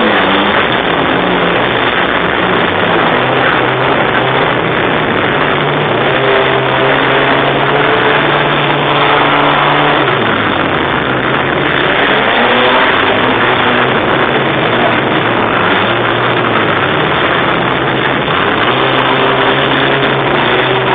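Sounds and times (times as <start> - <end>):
car engine at high revs: 0.0 - 20.9.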